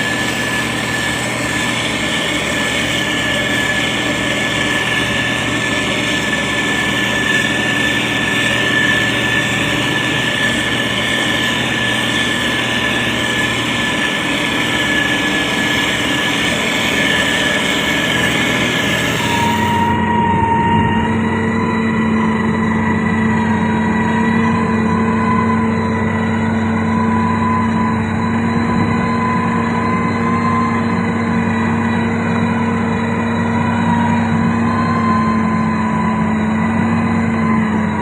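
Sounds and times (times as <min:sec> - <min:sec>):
diesel engine running: 0:00.0 - 0:38.0
thin steady whine: 0:00.0 - 0:38.0.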